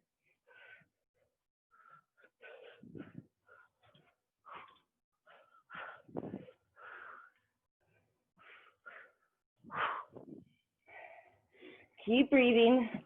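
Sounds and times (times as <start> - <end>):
person breathing hard: 0.2 - 12.0.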